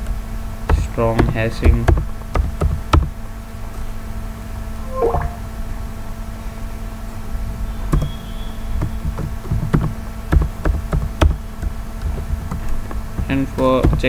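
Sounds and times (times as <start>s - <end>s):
low background hum and rumble: 0.0s - 14.0s.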